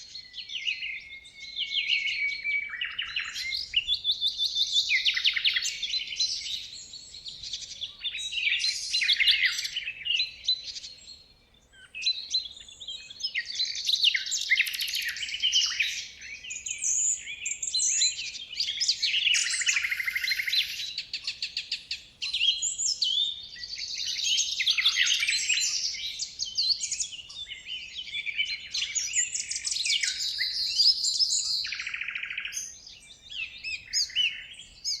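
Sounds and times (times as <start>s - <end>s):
birds chirping and calling: 0.1s - 11.2s, 11.8s - 35.0s.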